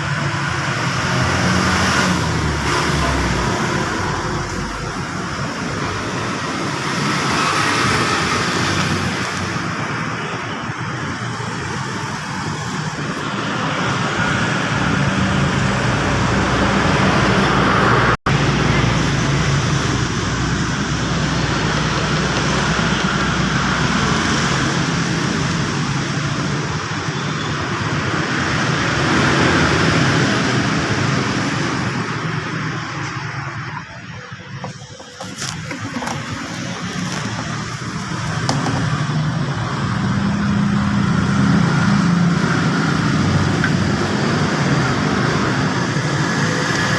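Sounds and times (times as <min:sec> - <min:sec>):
engine running: 0:00.0 - 0:46.9
road traffic: 0:00.0 - 0:46.9.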